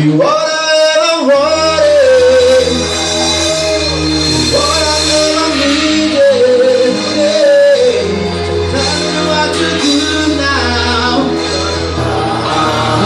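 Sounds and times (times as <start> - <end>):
bass line: 0.0 - 13.0.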